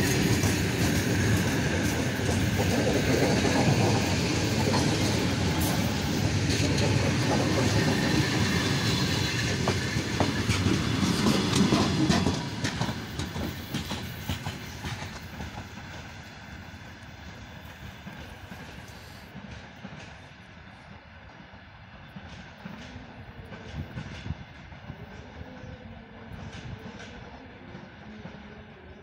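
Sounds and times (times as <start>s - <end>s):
train wheels rumbling and clicking: 0.0s - 29.0s.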